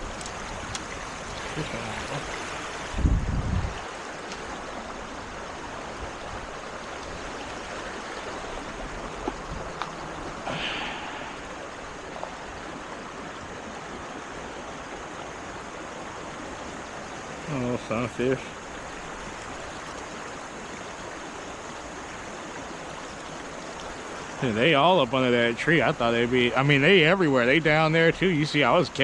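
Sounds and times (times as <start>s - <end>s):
creek water running: 0.0s - 29.0s.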